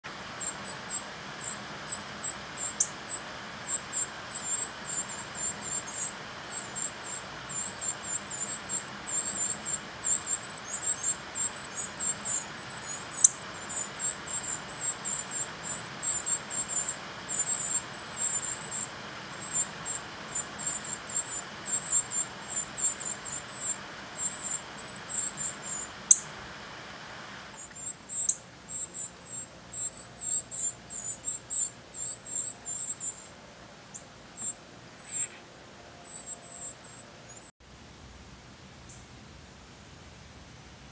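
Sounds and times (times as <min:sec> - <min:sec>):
nestlings peeping: 0:00.0 - 0:37.5.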